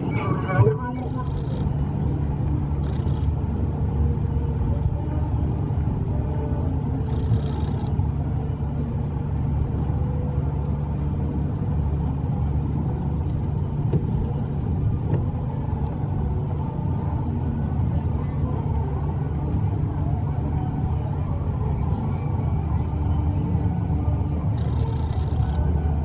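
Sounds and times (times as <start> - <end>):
boat motor rumbling: 0.0 - 26.0.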